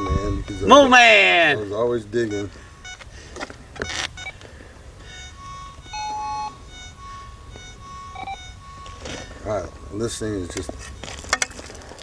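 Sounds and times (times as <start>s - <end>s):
metal detector beeps: 0.0s - 4.4s, 5.0s - 11.5s.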